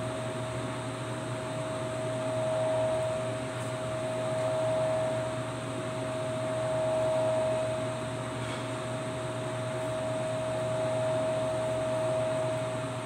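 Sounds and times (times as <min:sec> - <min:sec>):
electric motor hum with high whine: 0:00.0 - 0:13.0.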